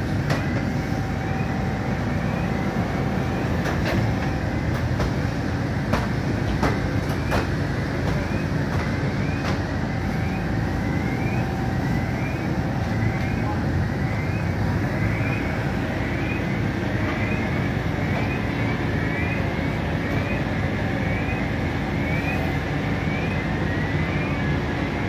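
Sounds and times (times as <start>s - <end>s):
fire engine low rumble: 0.0s - 25.0s.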